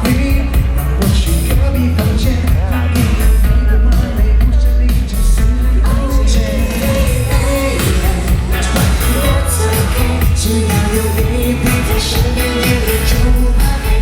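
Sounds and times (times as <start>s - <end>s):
heavy bass: 0.0s - 14.0s
live pop band with singing: 0.0s - 14.0s.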